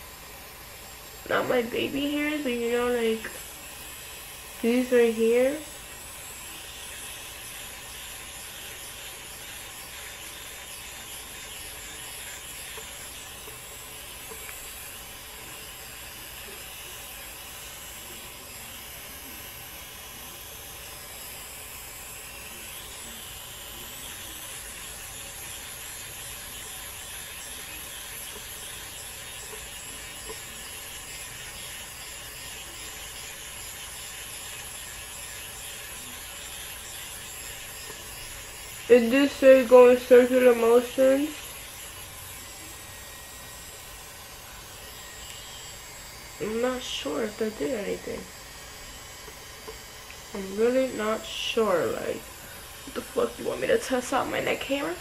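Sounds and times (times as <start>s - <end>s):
facial hair remover whirring: 0.0s - 55.0s.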